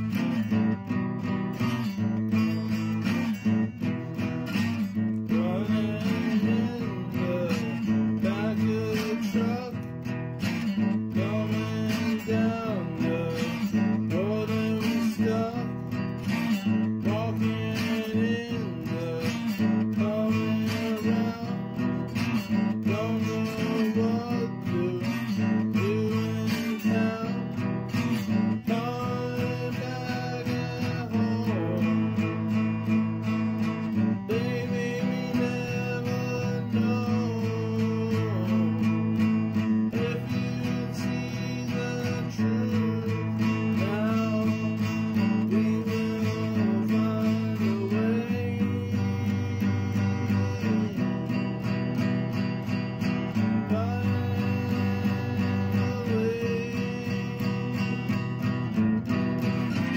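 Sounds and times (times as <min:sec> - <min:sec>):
strummed acoustic guitar song: 0:00.0 - 0:59.9.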